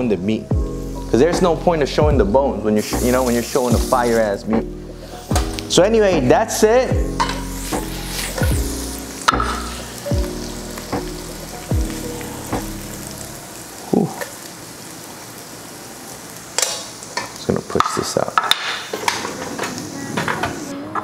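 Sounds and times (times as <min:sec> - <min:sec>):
onions sizzling in a frying pan: 0:02.7 - 0:20.7.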